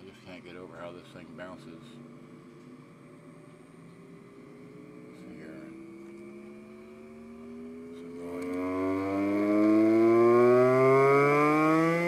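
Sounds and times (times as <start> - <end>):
buzzy tone rising in pitch: 1.4 - 12.0.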